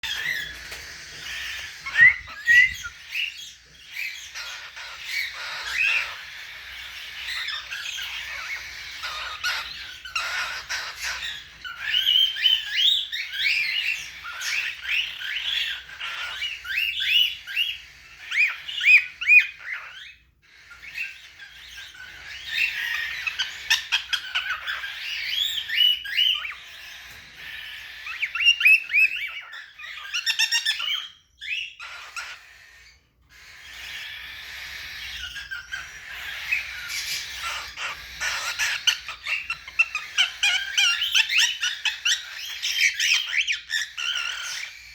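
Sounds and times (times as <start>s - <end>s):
cockatiel chattering: 0.0s - 44.9s.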